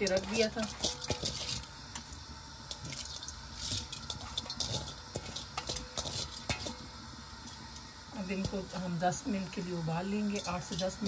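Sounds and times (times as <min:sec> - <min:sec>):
water boiling and bubbling: 0:00.0 - 0:11.0.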